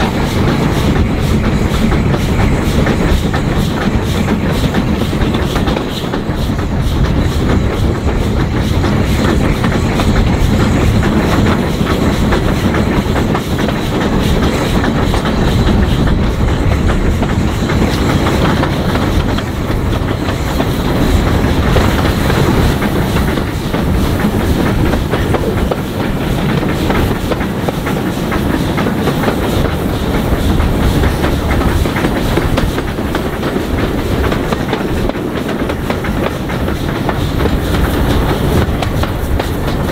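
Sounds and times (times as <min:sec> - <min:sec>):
train rumbling: 0:00.0 - 0:39.9
wheels clacking over rail joints: 0:00.0 - 0:39.9.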